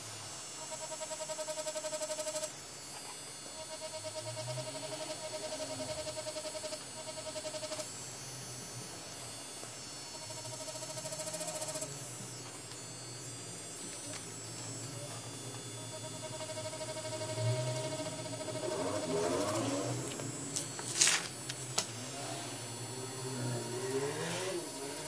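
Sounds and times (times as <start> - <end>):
tattoo pen buzzing: 0.0 - 25.0.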